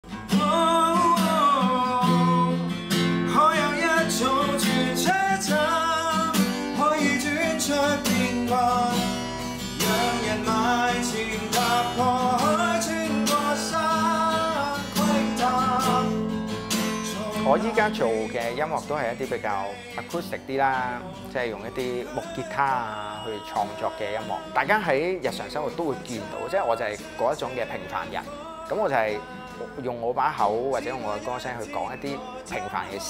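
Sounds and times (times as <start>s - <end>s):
man singing: 0.0s - 33.0s
strummed acoustic guitar: 0.0s - 33.0s.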